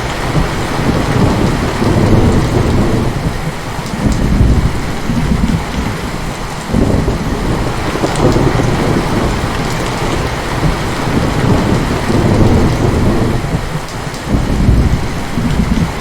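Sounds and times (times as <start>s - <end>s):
heavy rain: 0.0s - 16.0s
low thunder rumbling: 0.0s - 16.0s.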